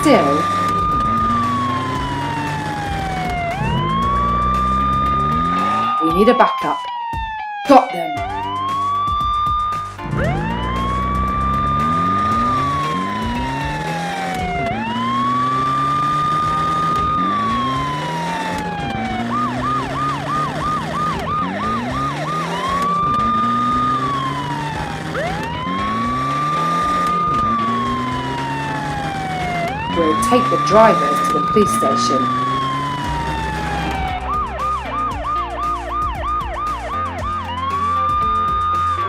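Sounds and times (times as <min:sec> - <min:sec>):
police siren wailing and yelping: 0:00.0 - 0:39.0.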